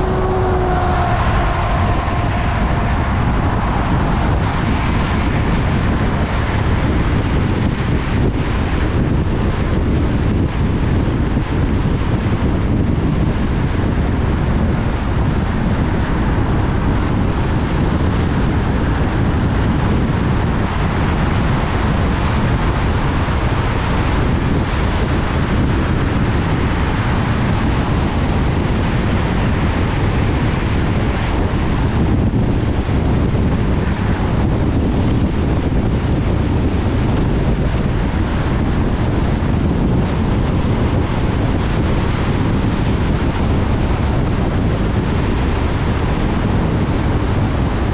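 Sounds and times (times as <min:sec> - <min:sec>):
car tyre and wind noise: 0:00.0 - 0:47.9.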